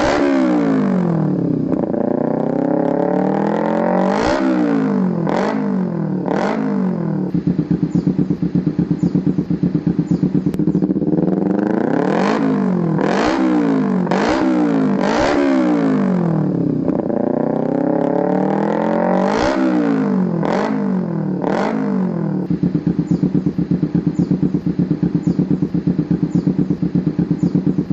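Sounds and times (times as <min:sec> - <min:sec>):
motorcycle engine idling and revving: 0:00.0 - 0:27.9.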